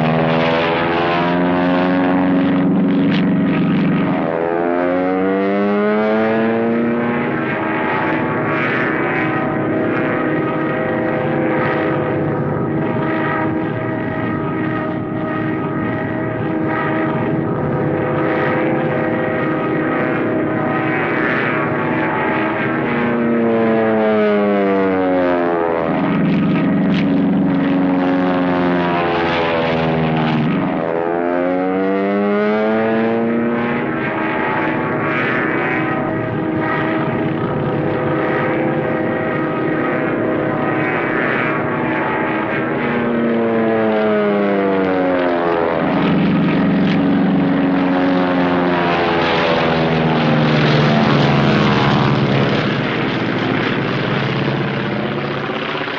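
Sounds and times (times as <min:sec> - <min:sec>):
propeller planes flying past: 0:00.0 - 0:55.9.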